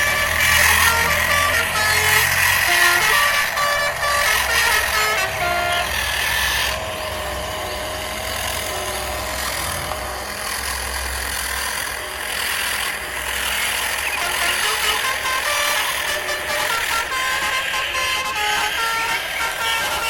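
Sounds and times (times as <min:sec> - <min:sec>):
model vehicle motor running: 0:00.0 - 0:20.0.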